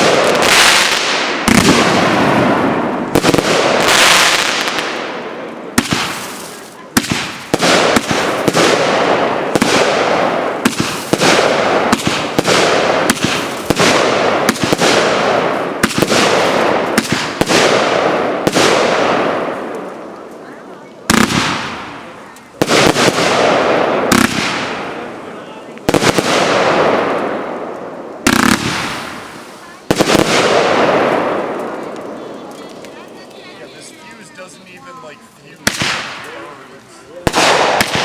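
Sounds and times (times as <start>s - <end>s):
firework bangs: 0.0s - 34.9s, 35.6s - 38.0s
firework crackle: 0.0s - 38.0s.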